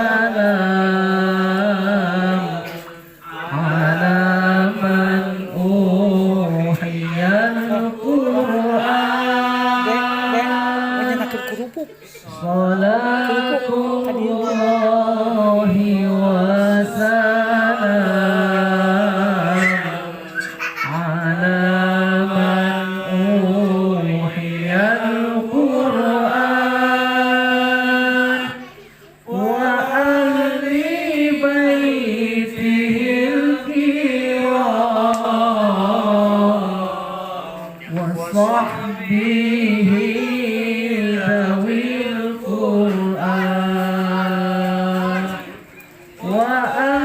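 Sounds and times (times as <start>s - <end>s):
man singing devotional song: 0.0s - 47.0s.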